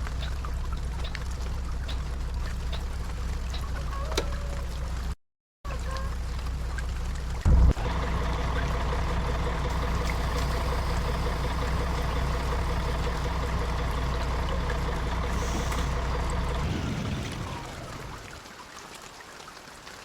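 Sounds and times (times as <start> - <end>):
bus engine running: 0.0 - 5.2, 6.2 - 18.4.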